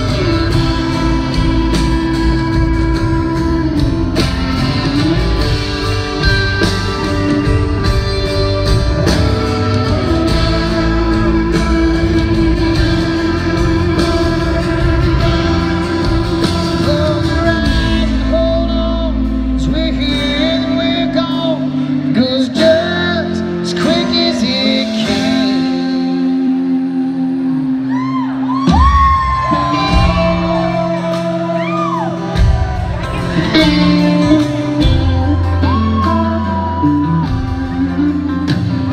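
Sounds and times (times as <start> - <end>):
country band playing: 0.0 - 38.9
man singing: 0.0 - 38.9.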